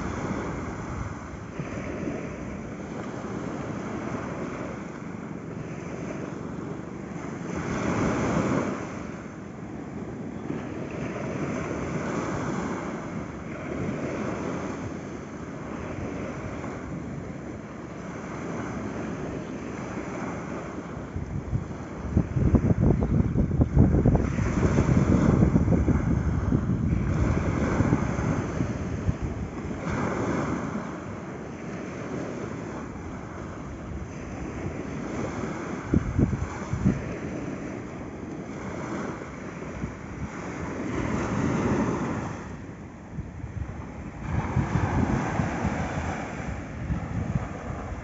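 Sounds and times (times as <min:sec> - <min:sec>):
waves breaking on beach: 0:00.0 - 0:48.0.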